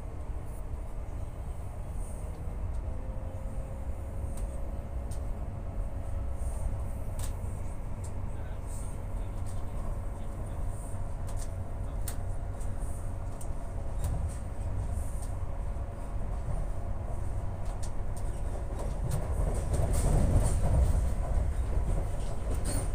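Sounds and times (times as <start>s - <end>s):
train wheels rumbling on track: 0.0s - 22.9s.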